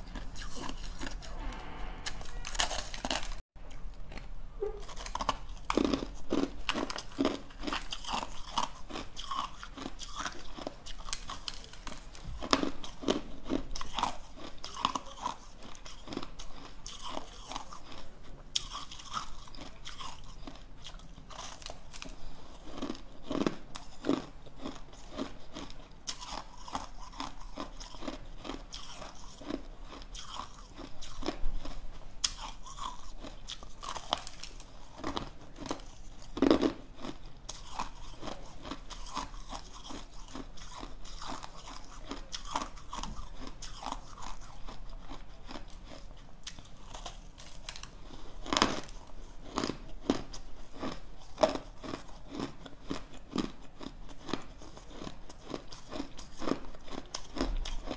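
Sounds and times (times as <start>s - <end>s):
crunching and chewing shaved ice: 0.0s - 1.4s, 2.3s - 57.9s.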